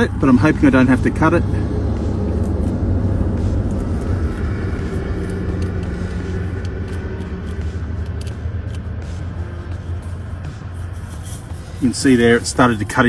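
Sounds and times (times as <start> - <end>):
low rumble of passing vehicles: 0.0 - 13.0.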